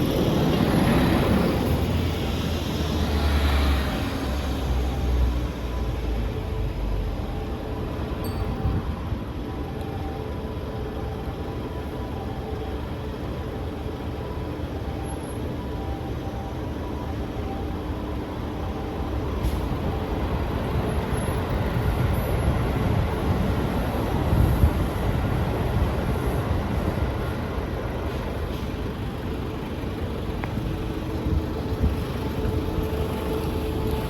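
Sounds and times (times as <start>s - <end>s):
vehicle traffic rumble: 0.0s - 34.0s.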